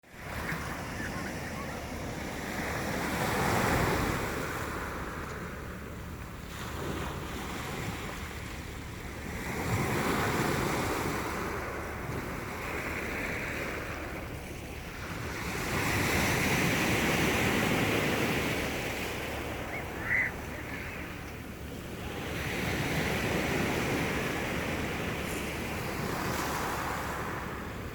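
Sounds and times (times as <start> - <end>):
sea waves washing ashore: 0.0 - 27.9.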